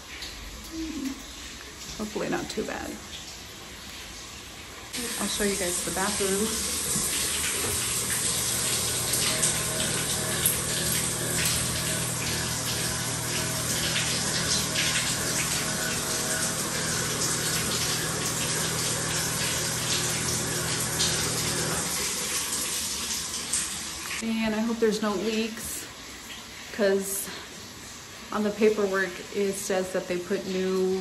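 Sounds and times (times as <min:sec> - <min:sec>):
tap water running: 0:00.0 - 0:31.0.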